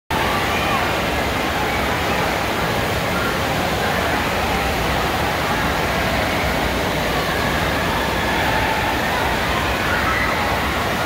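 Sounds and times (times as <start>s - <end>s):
din of many voices: 0.1s - 11.0s
rushing water: 0.1s - 11.0s.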